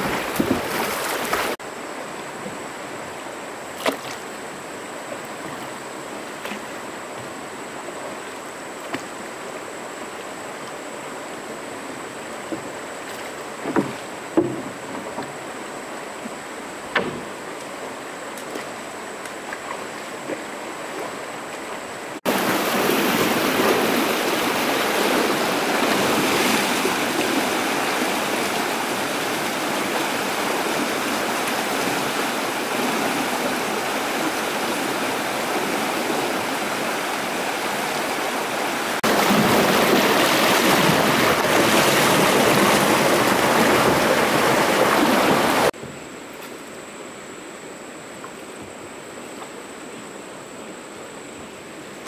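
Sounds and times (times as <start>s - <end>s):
water rushing over rocks: 0.0s - 1.6s, 3.8s - 45.8s.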